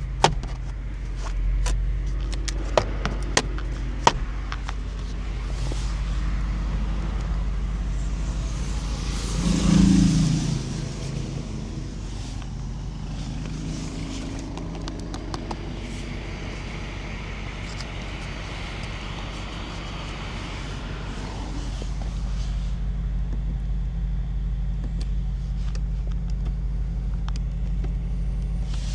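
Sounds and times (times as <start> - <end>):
car engine low drone: 0.0 - 28.9.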